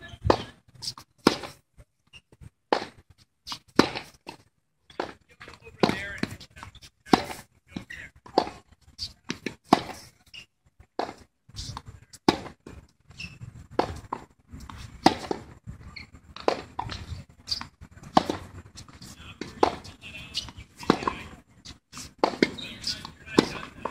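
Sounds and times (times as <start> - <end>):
racquets hitting tennis ball: 0.2 - 1.6, 2.3 - 8.7, 9.3 - 10.2, 11.0 - 15.6, 16.3 - 23.9
tennis ball bouncing: 0.2 - 1.6, 2.7 - 8.7, 9.3 - 10.1, 11.0 - 15.6, 16.3 - 23.9.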